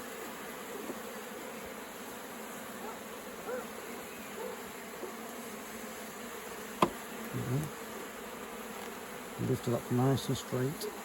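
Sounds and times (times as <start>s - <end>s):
hum of many honeybees: 0.0s - 11.0s
single bees buzzing past: 0.0s - 11.0s.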